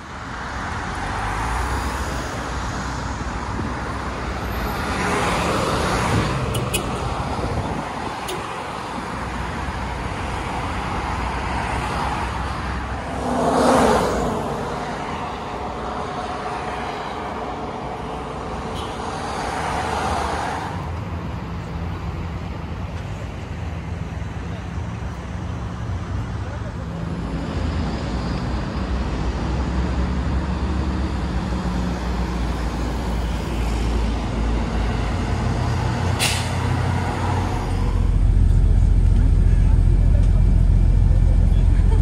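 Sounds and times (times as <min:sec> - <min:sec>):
traffic engine hum: 0:00.0 - 0:42.0
vehicles passing by: 0:00.0 - 0:42.0.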